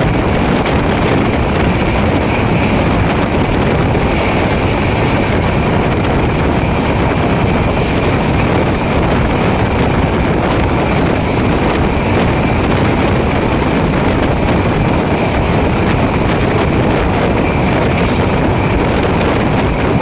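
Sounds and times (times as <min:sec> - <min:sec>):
train running at high speed: 0:00.0 - 0:20.0
wind rushing over microphone: 0:00.0 - 0:20.0.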